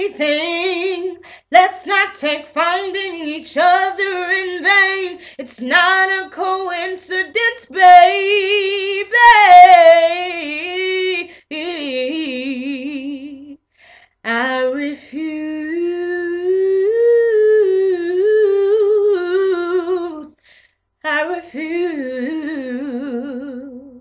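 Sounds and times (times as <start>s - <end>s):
woman singing without words: 0.0s - 24.0s.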